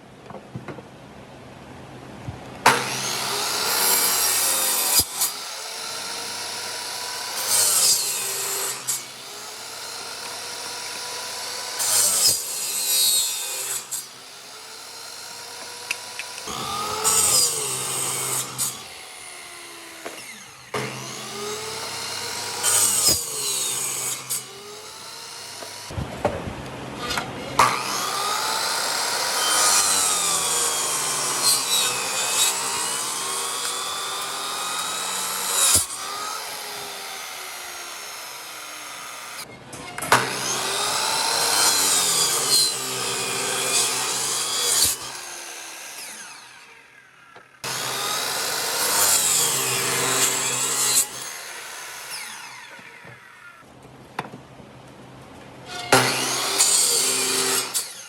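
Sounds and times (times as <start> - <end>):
power tool cutting wood: 2.7 - 26.0, 27.0 - 53.6, 55.7 - 58.0.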